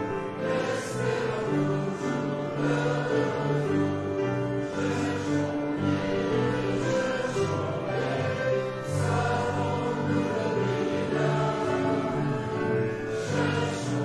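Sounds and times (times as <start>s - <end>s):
choir singing gospel: 0.0s - 14.0s.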